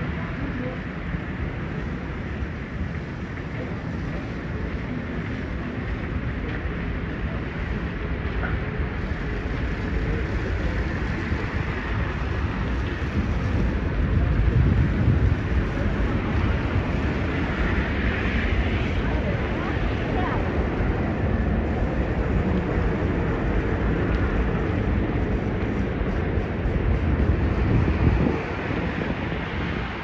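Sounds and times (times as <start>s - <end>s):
traffic rumble: 0.0s - 30.0s
wind buffeting microphone: 0.0s - 30.0s.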